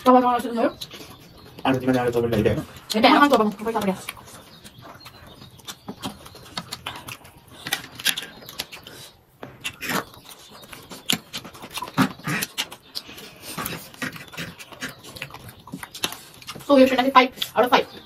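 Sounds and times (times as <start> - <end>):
chewing and lip-smacking: 0.0 - 18.0.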